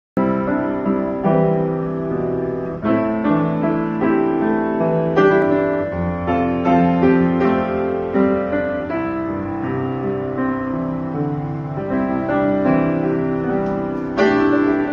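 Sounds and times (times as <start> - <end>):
piano chords ringing: 0.2 - 14.9.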